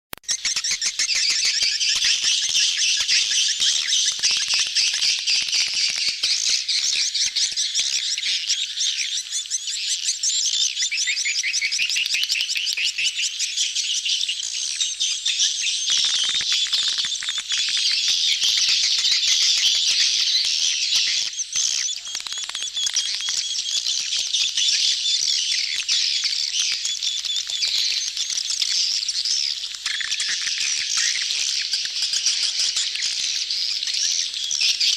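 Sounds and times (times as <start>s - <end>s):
swiftlets twittering and chirping: 0.2s - 34.9s.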